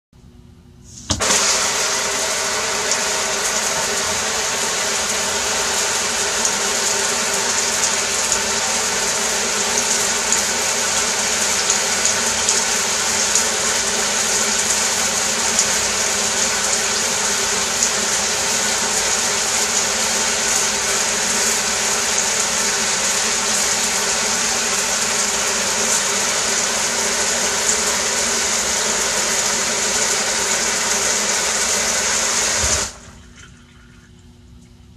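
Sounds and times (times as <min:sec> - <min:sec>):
shower spray hissing: 0:00.9 - 0:33.0.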